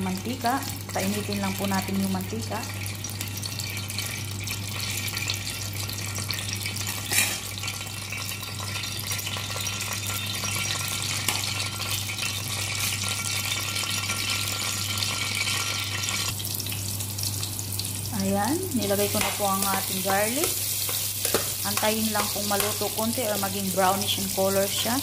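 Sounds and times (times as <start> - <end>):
oil sizzling in frying pan: 0.0 - 25.0.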